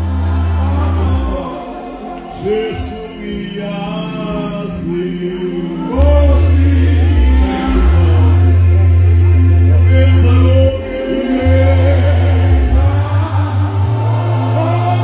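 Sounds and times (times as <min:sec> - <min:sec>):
deep sustained bass: 0:00.0 - 0:15.0
gospel worship singing: 0:00.0 - 0:15.0.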